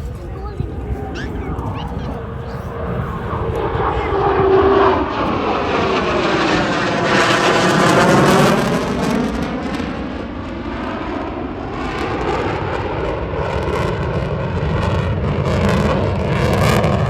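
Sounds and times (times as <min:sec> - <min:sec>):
jet engines flyby roar: 0:00.0 - 0:17.0.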